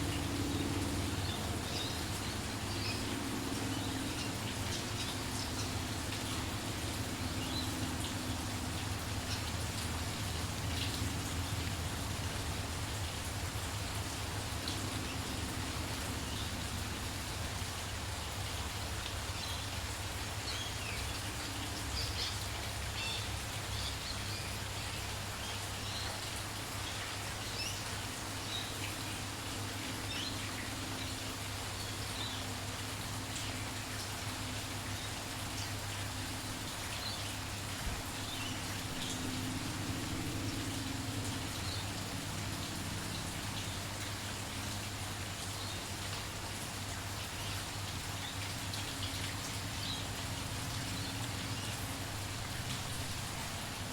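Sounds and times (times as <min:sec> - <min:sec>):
light rain falling: 0:00.0 - 0:53.9.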